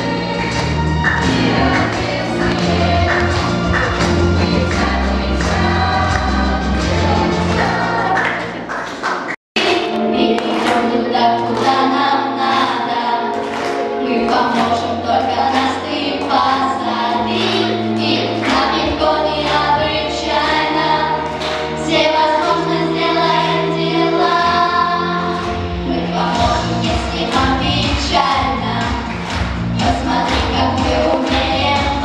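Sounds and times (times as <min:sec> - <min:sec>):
children singing in chorus: 0:00.0 - 0:08.4, 0:09.6 - 0:28.6
instrumental accompaniment with bass: 0:00.0 - 0:08.7, 0:09.6 - 0:32.0.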